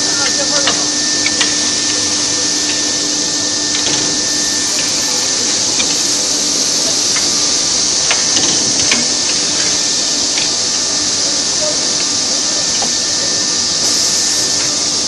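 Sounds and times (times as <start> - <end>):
faint machine hum: 0.0 - 15.0
steady high air hiss: 0.0 - 15.0.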